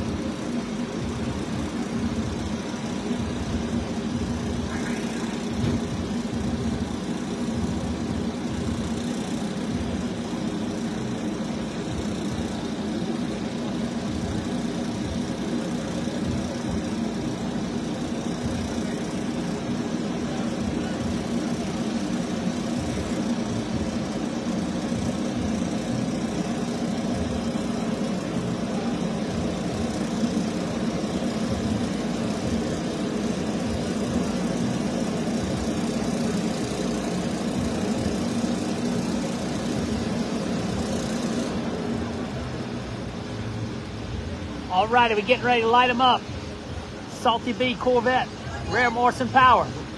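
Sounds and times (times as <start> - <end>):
race car engine idling: 0.0 - 49.9.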